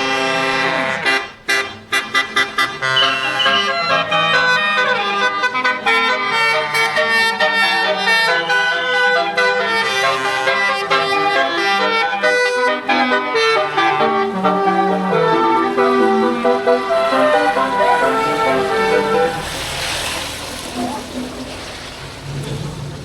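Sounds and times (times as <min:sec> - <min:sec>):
bus musical air horn melody: 0:00.0 - 0:20.4.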